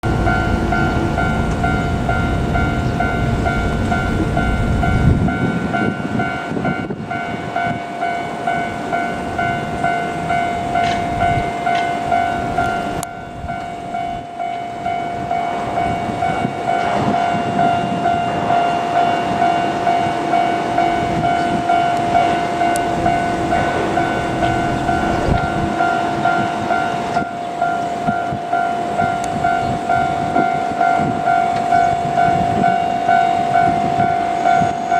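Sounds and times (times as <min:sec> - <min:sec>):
heavy low rumble: 0:00.0 - 0:06.8, 0:09.0 - 0:32.9
level crossing warning bell ringing: 0:00.0 - 0:34.9.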